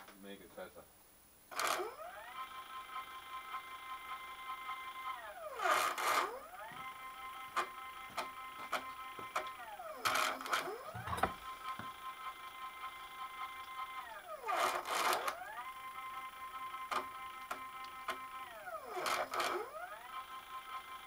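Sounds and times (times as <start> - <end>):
stepper motor whine: 1.5 - 21.0.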